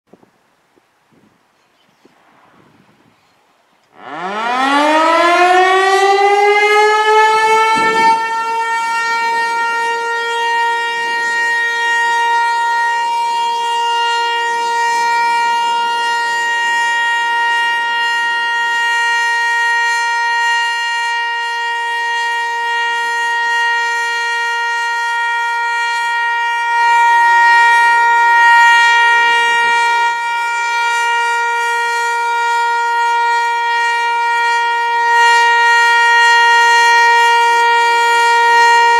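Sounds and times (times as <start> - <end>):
electronic warning siren: 3.9 - 38.9.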